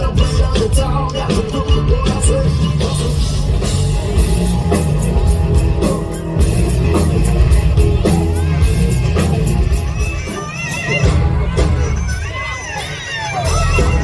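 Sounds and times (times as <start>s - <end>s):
rock music over sound system: 0.0s - 14.0s.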